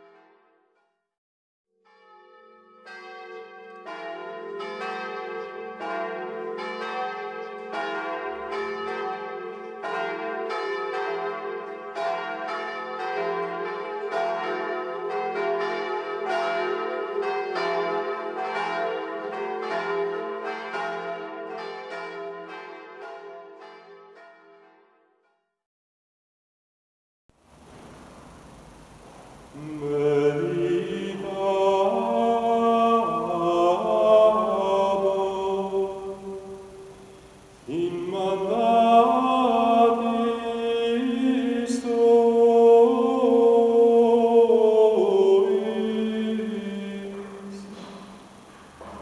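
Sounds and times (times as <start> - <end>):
church bells ringing: 0.0 - 0.5, 1.8 - 25.1, 27.7 - 49.0.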